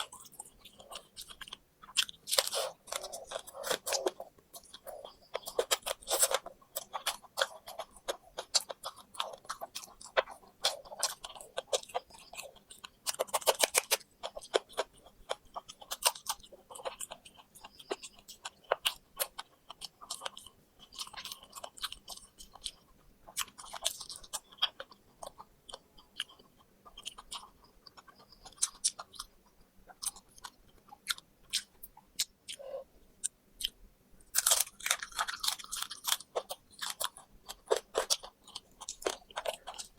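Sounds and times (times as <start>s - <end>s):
chewing crispy fried chicken: 0.0s - 39.9s.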